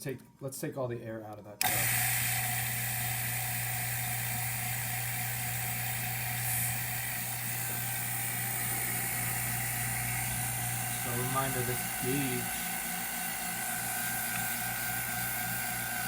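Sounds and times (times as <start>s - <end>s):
vacuum pump humming and hissing: 1.6s - 16.0s.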